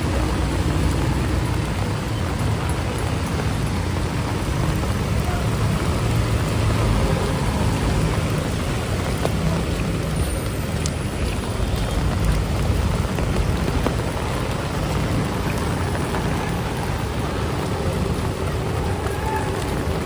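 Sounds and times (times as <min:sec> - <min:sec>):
city traffic: 0:00.0 - 0:20.0
heavy rain falling: 0:00.0 - 0:20.0
wind rumble: 0:00.0 - 0:20.0.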